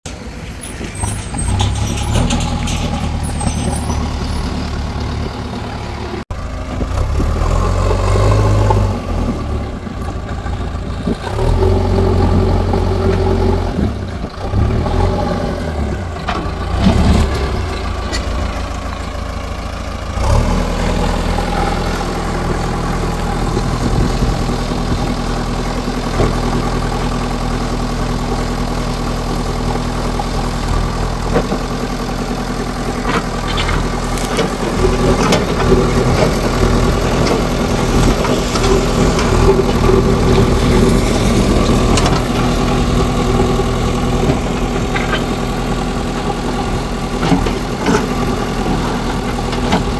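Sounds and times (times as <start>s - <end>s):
diesel engine revving: 0.1s - 49.9s.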